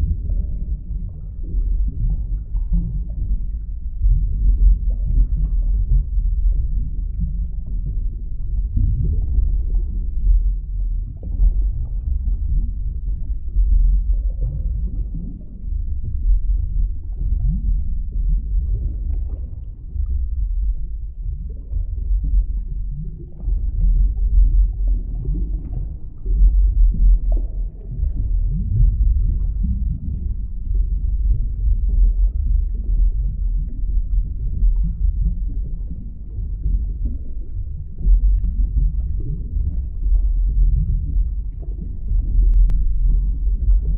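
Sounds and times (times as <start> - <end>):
deep underwater rumble: 0.0 - 43.9
soft bubbling gurgles: 0.0 - 43.9.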